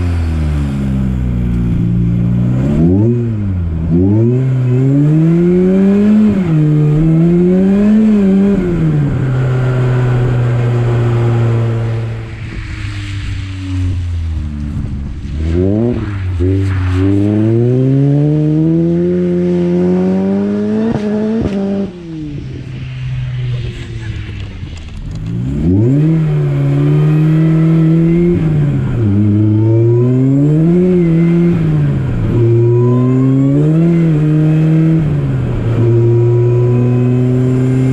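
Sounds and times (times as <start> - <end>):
car engine revving: 0.0 - 37.9
supercharger whine: 0.0 - 37.9.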